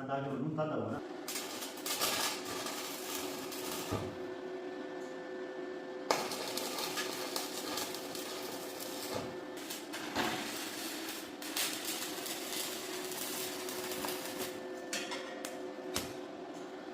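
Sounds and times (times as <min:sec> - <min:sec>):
pinning machine humming: 0:01.0 - 0:16.9.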